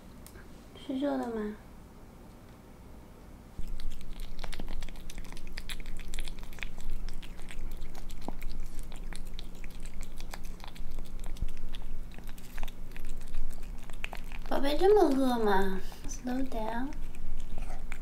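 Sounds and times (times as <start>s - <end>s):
kitten chewing and lip-smacking: 3.6s - 18.0s.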